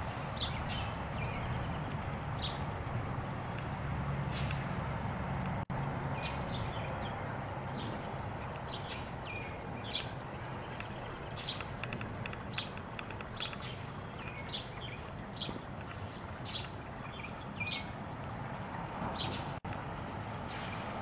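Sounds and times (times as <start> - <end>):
small birds chirping: 0.3 - 3.8, 6.2 - 19.6.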